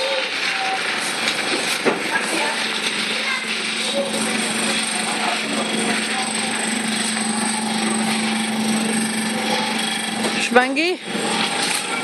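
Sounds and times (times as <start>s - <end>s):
wire shopping trolley rattling: 0.0s - 12.0s
steady hum: 0.5s - 12.0s.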